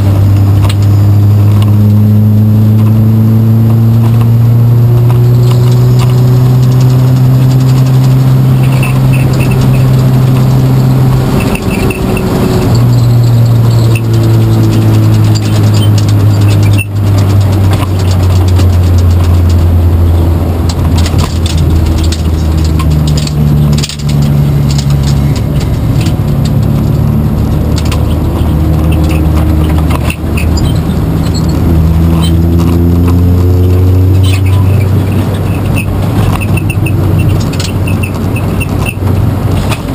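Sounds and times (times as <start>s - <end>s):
racing car engine running hard: 0.0s - 39.9s.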